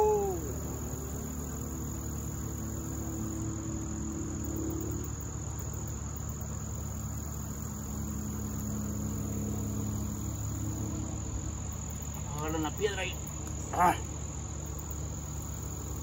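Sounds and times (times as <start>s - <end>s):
insects chirping: 0.0s - 16.0s
low steady hum: 0.0s - 16.0s.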